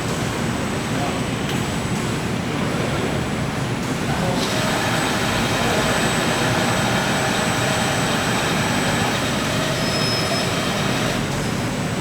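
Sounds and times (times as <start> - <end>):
factory machinery running: 0.0 - 12.0.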